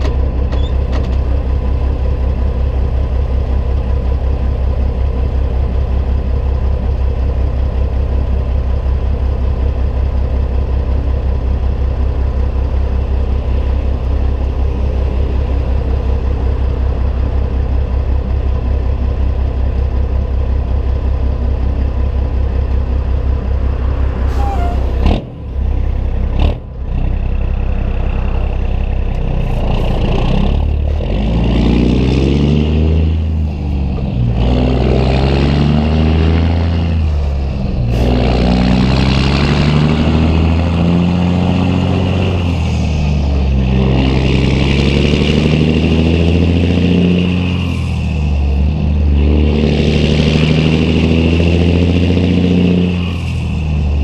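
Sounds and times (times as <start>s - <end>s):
diesel truck engine pulling away: 0.0s - 54.0s.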